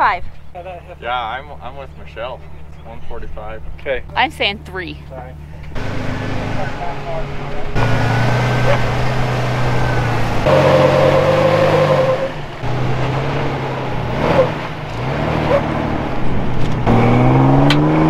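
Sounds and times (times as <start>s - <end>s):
truck engine revving: 0.8s - 18.0s.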